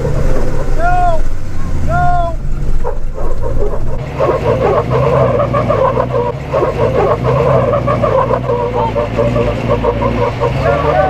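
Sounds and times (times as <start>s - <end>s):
off-road vehicle engines under load: 0.0s - 11.0s
rough wavering squeal: 0.0s - 11.0s.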